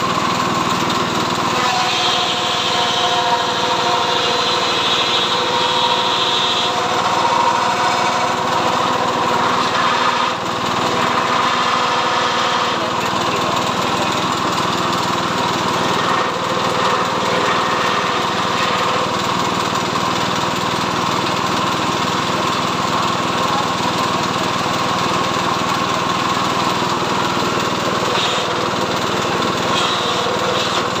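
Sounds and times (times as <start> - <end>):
small engine running under load: 0.0 - 31.0.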